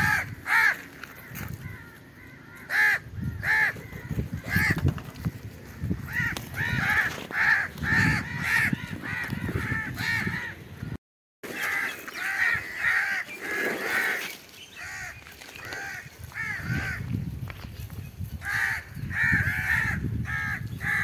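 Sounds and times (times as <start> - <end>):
crows cawing: 0.0 - 17.1, 18.4 - 21.0.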